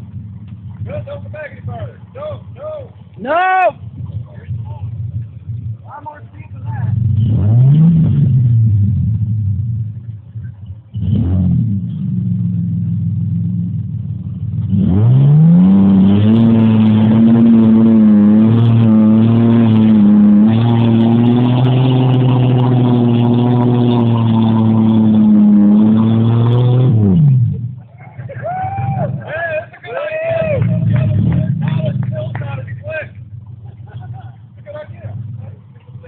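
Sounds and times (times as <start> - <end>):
vehicle motor revving: 0.0 - 36.0.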